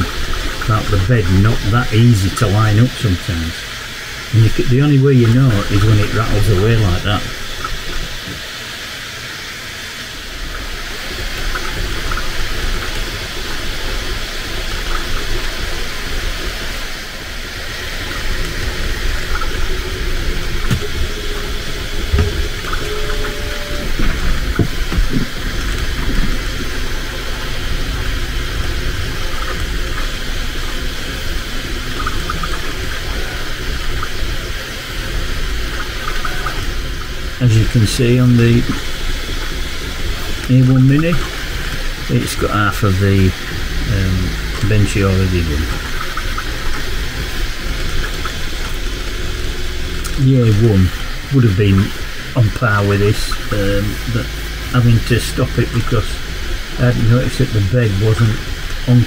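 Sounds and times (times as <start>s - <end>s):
cooling fans whooshing: 0.0s - 59.0s
low hum: 0.0s - 59.0s.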